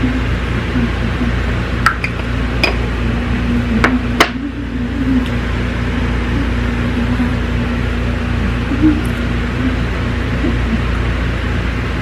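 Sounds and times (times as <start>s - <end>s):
low hum with held tone: 0.0s - 12.0s.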